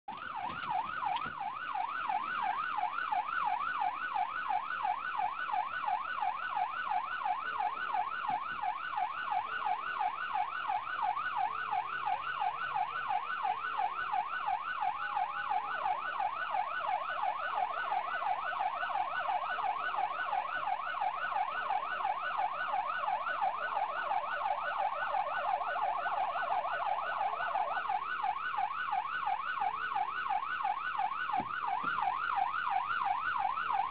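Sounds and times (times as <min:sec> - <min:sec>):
police siren yelping: 0:00.1 - 0:33.9.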